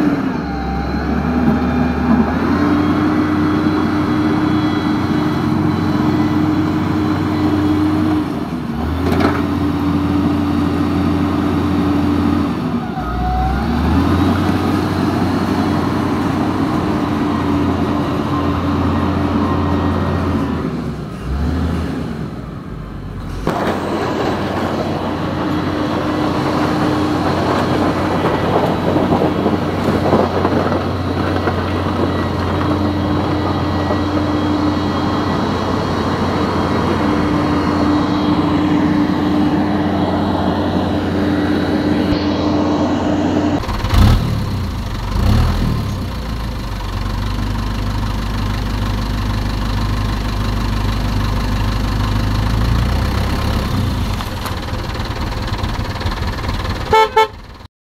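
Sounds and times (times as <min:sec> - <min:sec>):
deeper rumble: 0:00.0 - 0:57.7.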